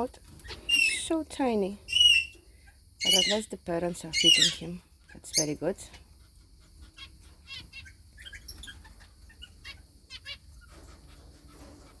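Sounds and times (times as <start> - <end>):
finches chirping: 0.0 - 6.0, 6.8 - 11.7.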